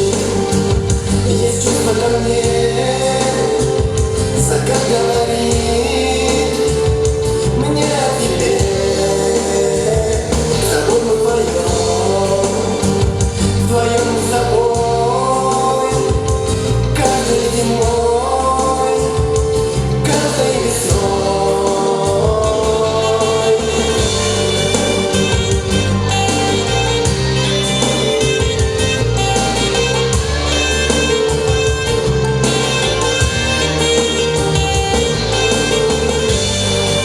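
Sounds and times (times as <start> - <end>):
pop song with singing: 0.0 - 37.0.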